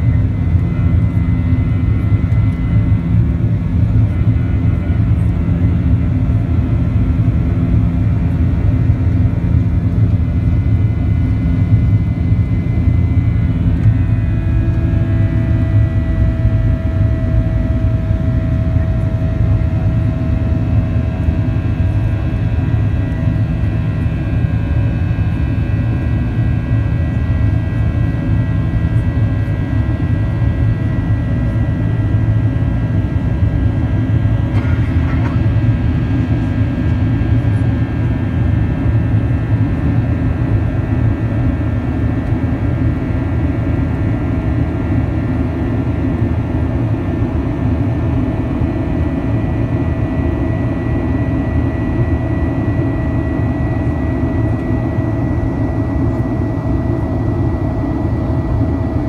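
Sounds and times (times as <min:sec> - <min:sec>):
jet engine cabin rumble: 0:00.0 - 0:59.0
thin steady engine whine: 0:00.0 - 0:59.0.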